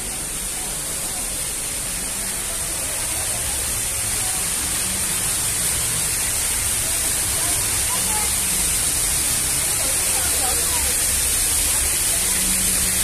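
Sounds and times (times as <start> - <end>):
faint voices murmuring: 0.0 - 13.0
steady hiss: 0.0 - 13.0.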